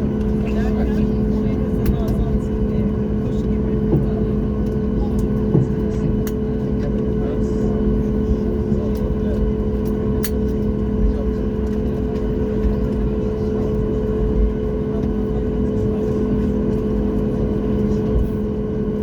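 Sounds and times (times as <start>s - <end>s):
airplane cabin engine hum: 0.0s - 19.0s.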